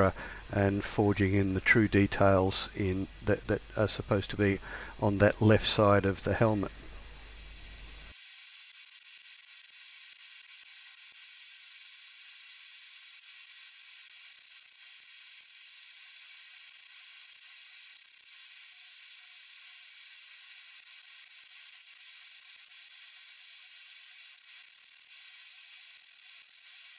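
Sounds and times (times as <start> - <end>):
faint steady hiss: 0.0 - 26.9.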